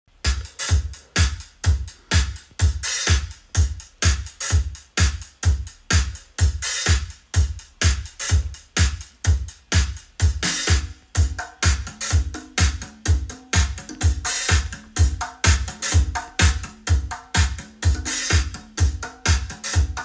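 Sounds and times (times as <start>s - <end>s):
electronic dance music: 0.1s - 20.0s.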